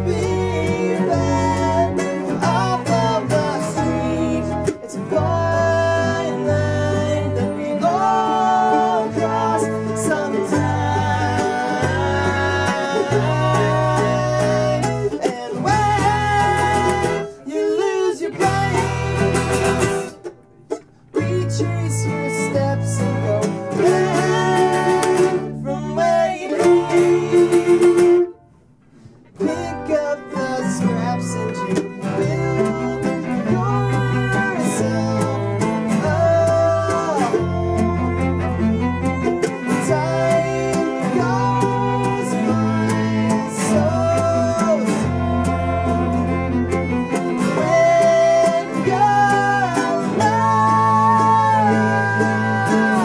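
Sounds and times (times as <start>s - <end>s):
bowed cello: 0.0s - 17.3s, 21.2s - 28.4s, 29.3s - 53.0s
bass guitar: 0.0s - 17.5s, 18.2s - 53.0s
man singing: 0.0s - 20.3s, 21.0s - 28.2s, 29.3s - 53.0s
string band playing: 0.0s - 53.0s
strummed mandolin: 0.0s - 53.0s.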